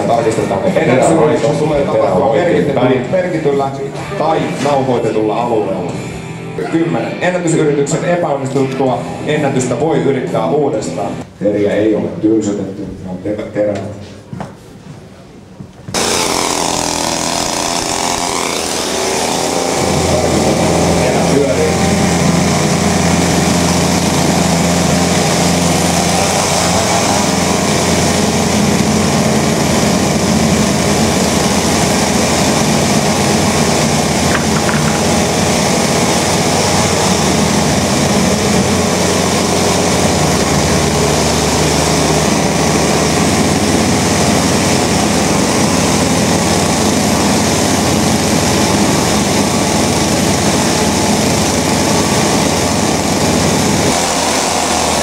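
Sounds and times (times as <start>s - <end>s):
chainsaws droning: 0.0s - 11.3s, 15.9s - 55.0s.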